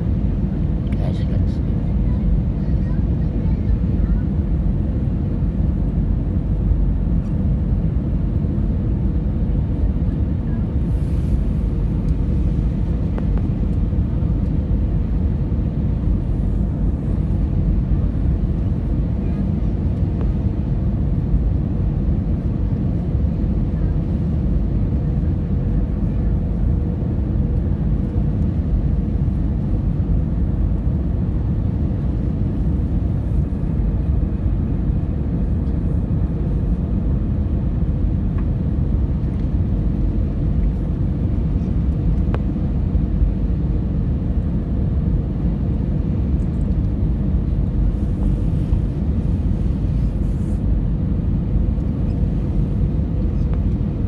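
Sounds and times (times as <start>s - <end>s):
airliner cabin rumble: 0.0s - 54.0s
faint steady hum: 0.0s - 54.0s.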